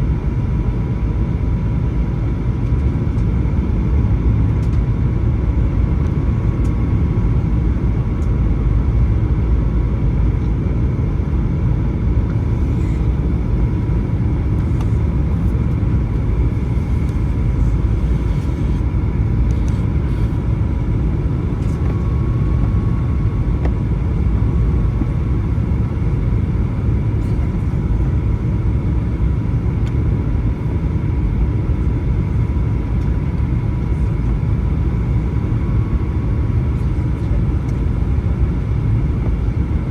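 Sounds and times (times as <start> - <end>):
airplane cabin roar: 0.0 - 39.9
faint steady whine: 0.0 - 39.9.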